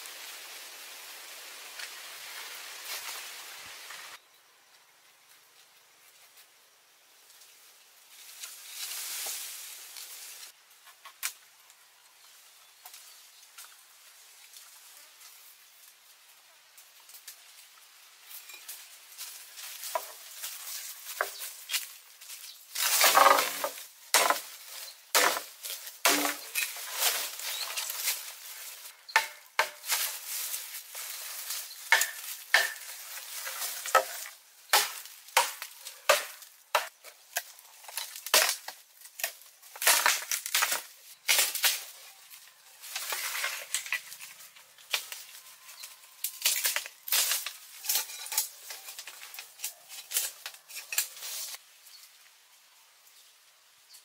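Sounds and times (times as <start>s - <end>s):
leaves and branches rustling: 0.0s - 54.0s.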